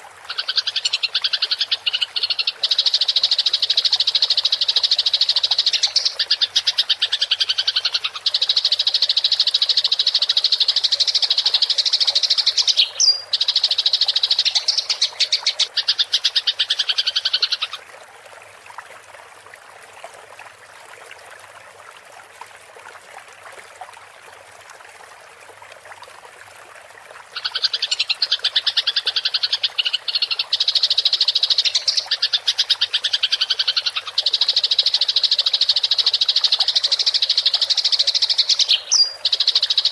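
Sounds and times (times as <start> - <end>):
faint water trickle: 0.0 - 39.9.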